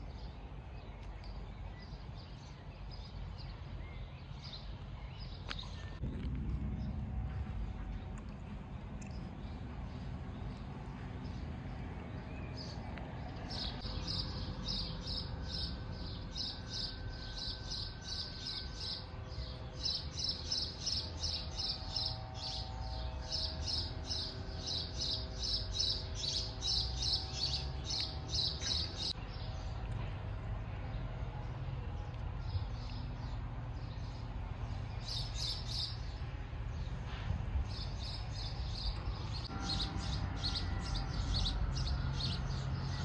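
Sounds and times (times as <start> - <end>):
low outdoor rumble: 0.0 - 43.0.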